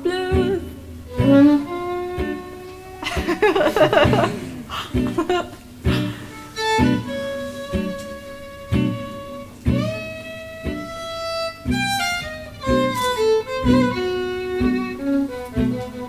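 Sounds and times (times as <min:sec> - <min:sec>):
acoustic guitar chords: 0:00.0 - 0:16.0
violin sliding melody: 0:00.0 - 0:16.0.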